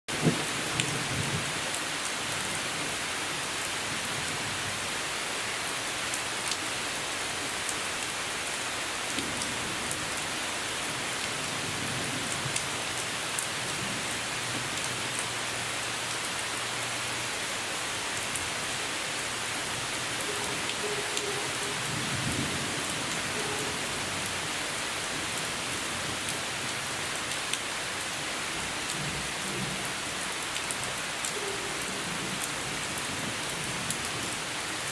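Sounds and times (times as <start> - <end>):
raindrops pattering: 0.1 - 34.9
steady rainfall: 0.1 - 34.9.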